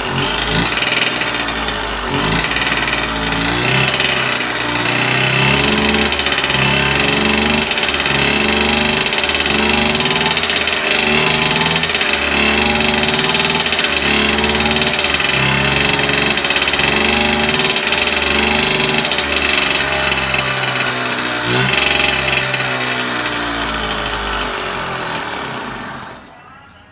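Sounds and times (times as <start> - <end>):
two-stroke engine revving: 0.0 - 26.4.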